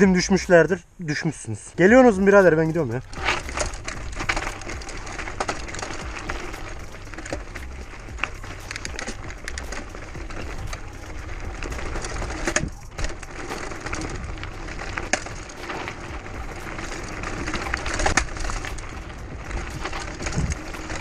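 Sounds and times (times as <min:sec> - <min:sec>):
bike rattling over stones: 0:00.0 - 0:21.0
wind rumble on microphone: 0:03.0 - 0:21.0.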